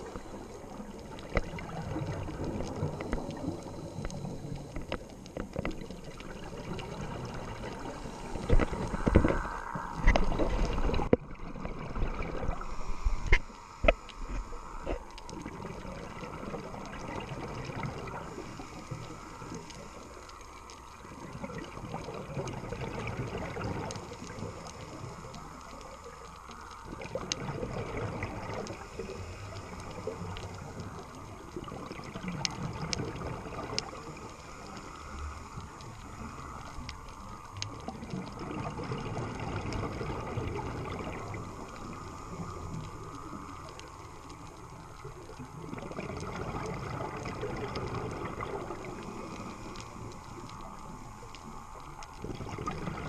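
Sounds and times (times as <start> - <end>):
underwater gurgling water: 0.0 - 53.0.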